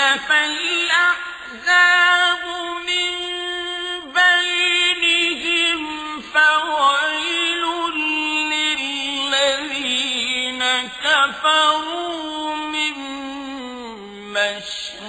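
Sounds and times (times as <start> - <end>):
man chanting melodic recitation: 0.0 - 15.0.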